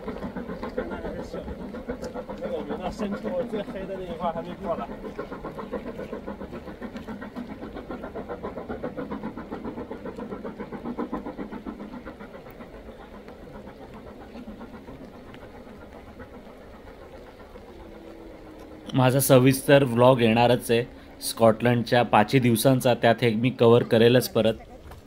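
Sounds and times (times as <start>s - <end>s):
steam locomotive chuffing: 0.0s - 25.0s.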